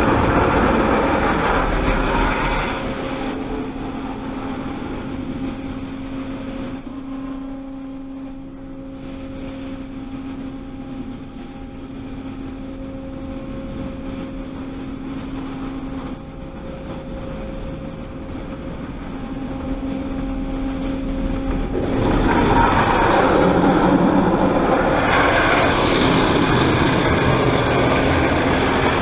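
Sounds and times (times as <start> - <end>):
car wash machinery humming: 0.0 - 29.0.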